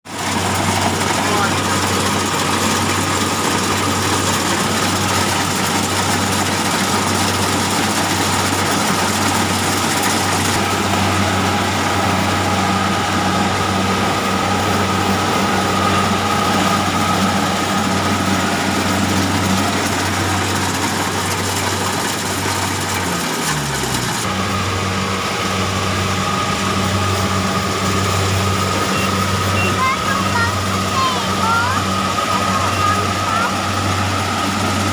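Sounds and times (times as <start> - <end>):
harvesting machine engine running: 0.1 - 34.9.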